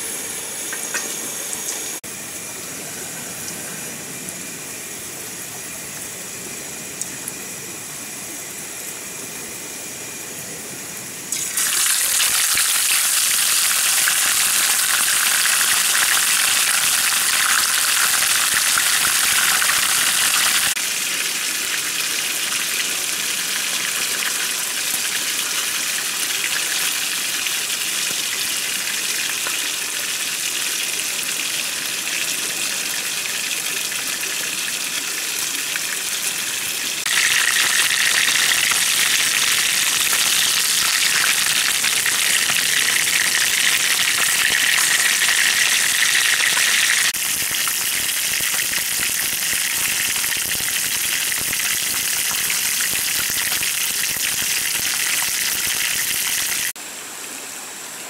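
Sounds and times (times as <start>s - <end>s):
fish sizzling in frying oil: 0.2s - 2.4s, 11.3s - 56.8s.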